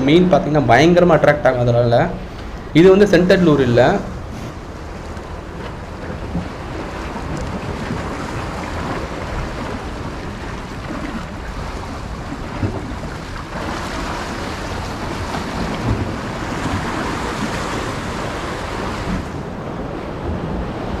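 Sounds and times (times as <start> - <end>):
wind buffeting microphone: 0.0 - 21.0
waves splashing against concrete: 2.2 - 21.0.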